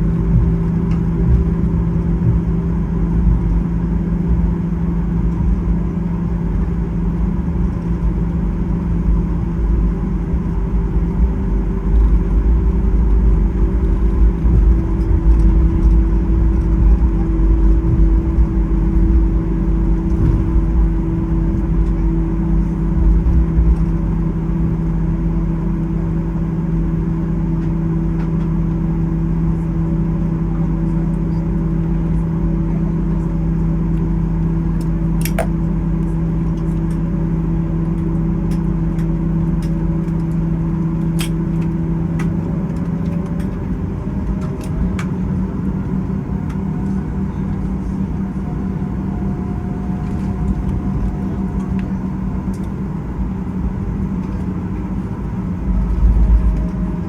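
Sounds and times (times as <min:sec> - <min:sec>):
airplane cabin hum: 0:00.0 - 0:57.0.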